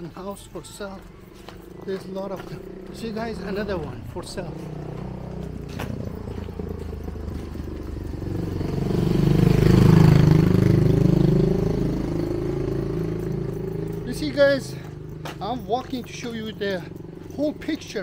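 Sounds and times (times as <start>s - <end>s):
vehicle engine passing by: 0.0s - 18.0s.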